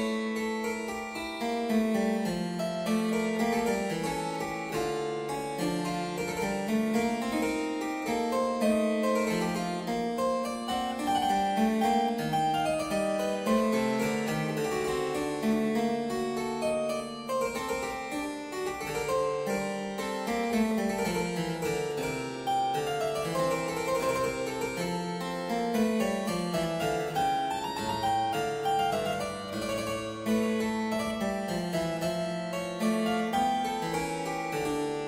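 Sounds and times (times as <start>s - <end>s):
keyboard music: 0.0s - 35.0s.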